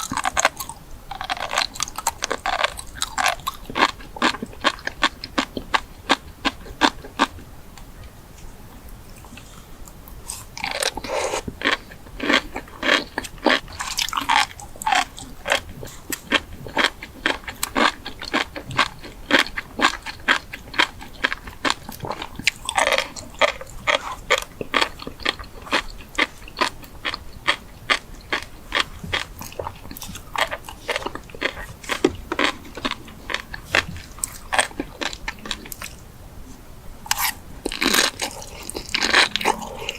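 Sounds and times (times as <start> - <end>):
person chewing crunchy food: 0.0 - 7.5, 9.1 - 36.0, 37.0 - 39.9.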